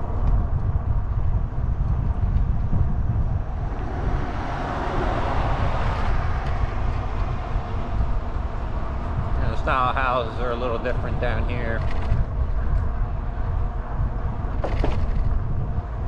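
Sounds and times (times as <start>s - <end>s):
passing vehicle: 0.0s - 16.0s
wind buffeting microphone: 0.0s - 16.0s.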